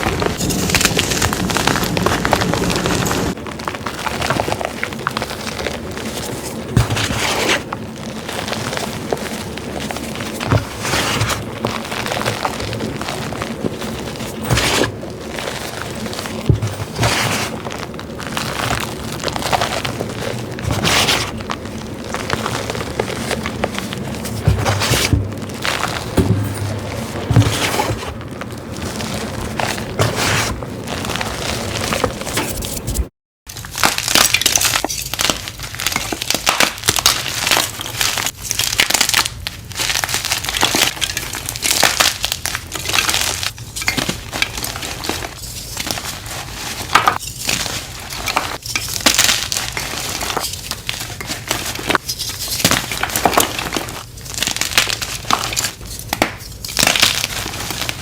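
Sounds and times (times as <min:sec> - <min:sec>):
chalk blocks crunching by hand: 0:00.0 - 0:58.0.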